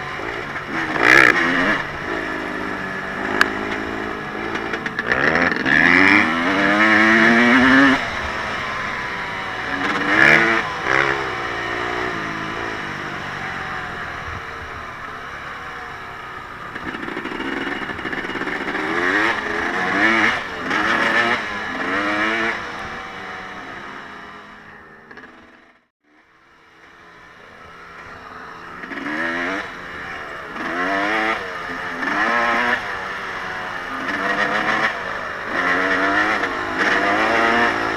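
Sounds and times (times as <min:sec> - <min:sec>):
off-road vehicle engine revving: 0:00.0 - 0:37.9.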